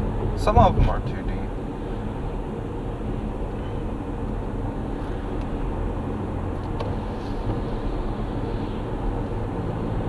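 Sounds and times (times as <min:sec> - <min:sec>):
road and engine noise in vehicle: 0:00.0 - 0:10.0.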